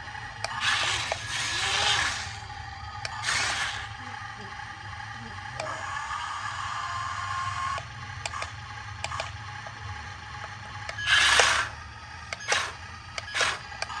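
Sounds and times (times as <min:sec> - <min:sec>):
toy mechanism scraping whir: 0:00.0 - 0:14.0
toy mechanism clicking: 0:00.4 - 0:04.5, 0:05.2 - 0:14.0.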